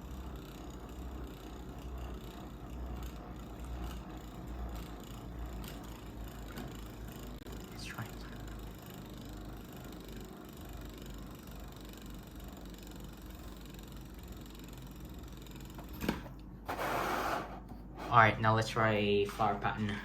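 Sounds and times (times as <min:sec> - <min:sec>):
spinning top whirring scrape: 0:00.0 - 0:18.3.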